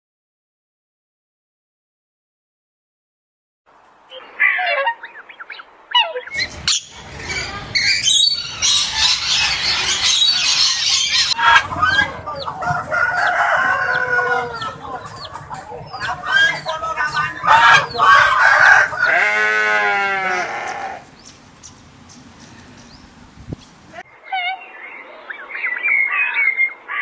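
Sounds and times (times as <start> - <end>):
birds calling: 4.1 - 19.4, 20.0 - 27.0.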